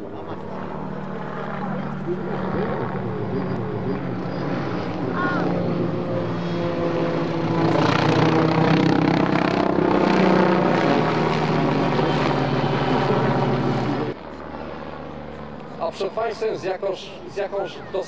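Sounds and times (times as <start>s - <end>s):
jet and propeller engines: 0.0s - 18.0s.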